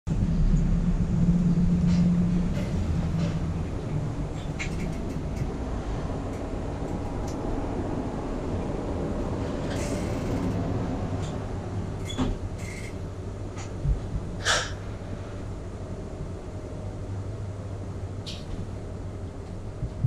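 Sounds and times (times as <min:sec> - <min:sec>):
lift humming: 0:00.1 - 0:20.0.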